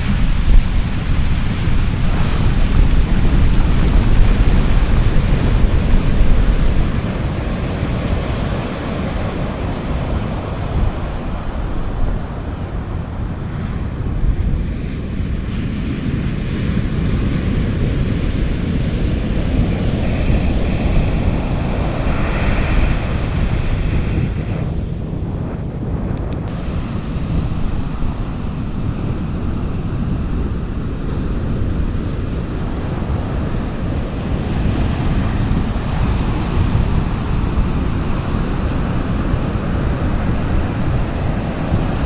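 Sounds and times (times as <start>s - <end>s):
sea waves washing on beach: 0.0s - 42.0s
wind on microphone: 0.0s - 42.0s.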